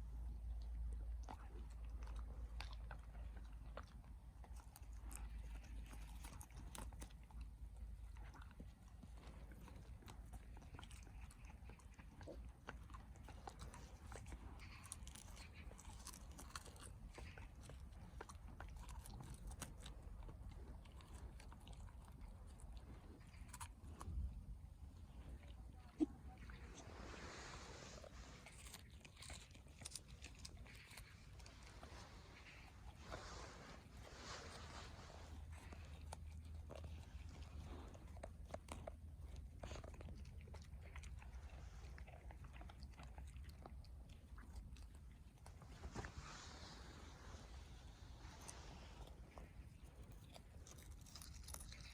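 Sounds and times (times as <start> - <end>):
dog chewing grass: 0.0 - 51.9.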